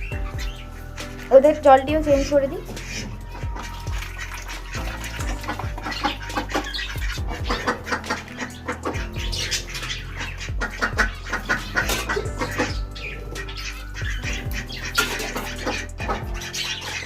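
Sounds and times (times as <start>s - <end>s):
cage birds chirping: 0.0s - 17.0s
music with low beat: 0.0s - 17.0s.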